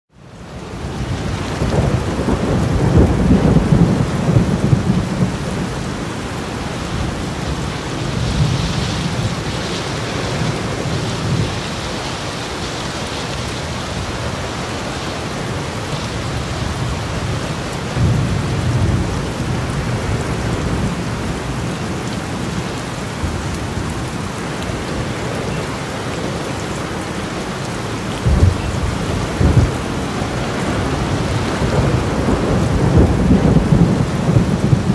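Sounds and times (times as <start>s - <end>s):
heavy rain pouring: 0.1s - 34.9s
wind gusting in low rumbles: 0.3s - 34.9s.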